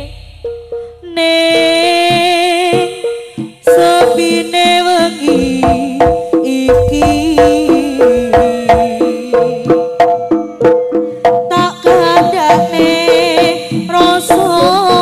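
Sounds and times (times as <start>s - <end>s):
drum beats: 0.0s - 15.0s.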